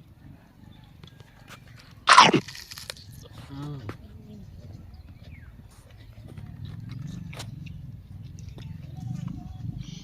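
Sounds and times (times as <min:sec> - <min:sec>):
chewing raw vegetables: 0:01.3 - 0:04.0, 0:04.6 - 0:10.0.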